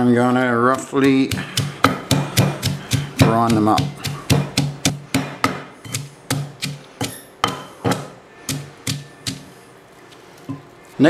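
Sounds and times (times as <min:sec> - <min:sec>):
pestle pounding in stone mortar: 0:00.4 - 0:09.5.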